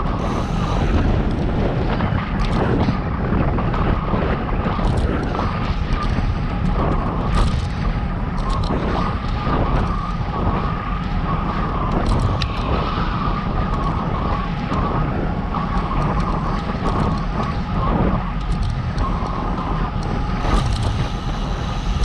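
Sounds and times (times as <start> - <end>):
steady high whine: 0.0 - 22.0
wind buffeting microphone: 0.0 - 22.0.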